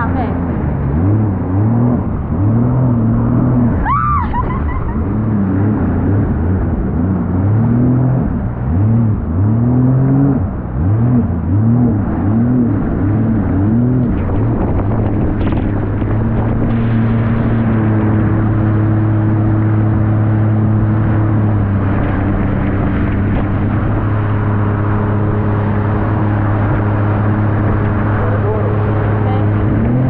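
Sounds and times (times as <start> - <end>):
jet ski engine: 0.0 - 30.0.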